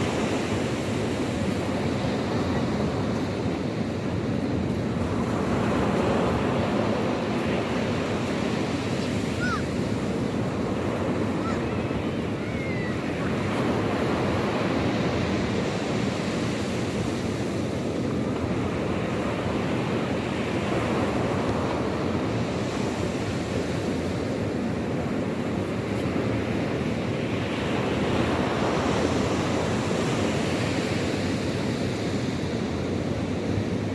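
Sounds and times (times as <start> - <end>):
sea waves washing onto shore: 0.0 - 33.9.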